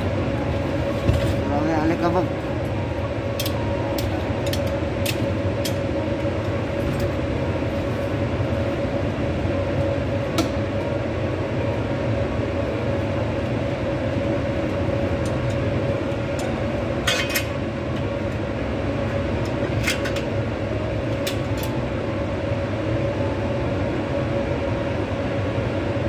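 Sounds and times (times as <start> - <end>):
machinery drone: 0.0 - 26.0.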